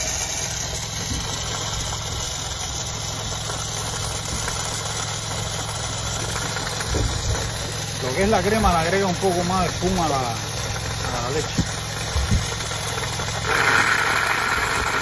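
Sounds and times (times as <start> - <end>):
espresso machine pump buzz: 0.0 - 15.0
milk froth hissing: 0.0 - 15.0.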